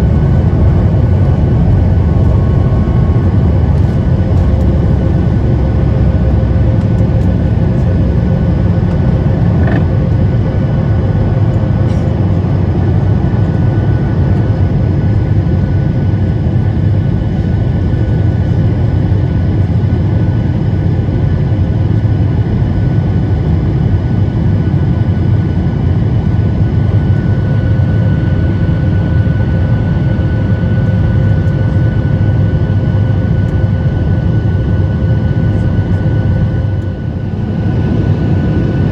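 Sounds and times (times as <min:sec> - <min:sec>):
faint engine whining tones: 0:00.0 - 0:19.9, 0:25.9 - 0:38.9
jet airliner cabin rumble: 0:00.0 - 0:38.9.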